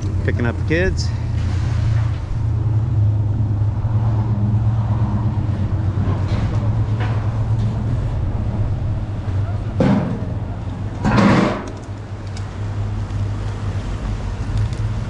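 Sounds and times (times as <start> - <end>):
street background noise: 0.0 - 15.0
vehicle engine humming: 0.0 - 15.0.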